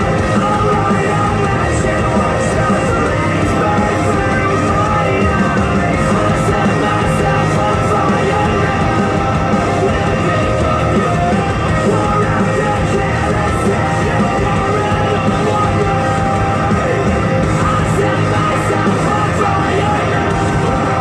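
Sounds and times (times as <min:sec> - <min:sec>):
loud rock music with vocals: 0:00.0 - 0:21.0.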